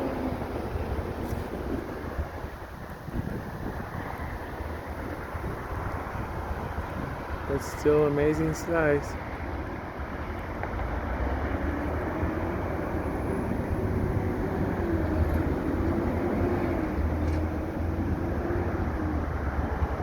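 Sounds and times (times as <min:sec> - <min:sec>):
vehicle rumbling with wavering hum: 0:00.0 - 0:20.0.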